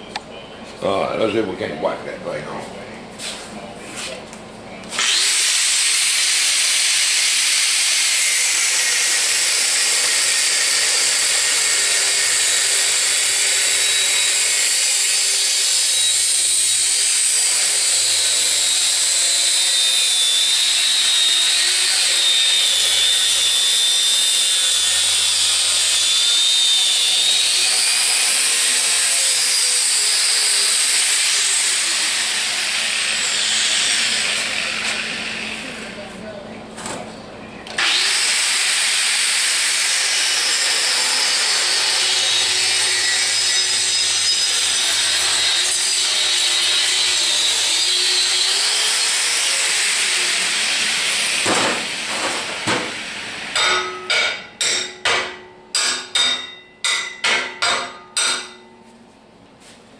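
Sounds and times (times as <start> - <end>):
angle grinder grinding metal: 4.9 - 36.0, 37.7 - 58.7.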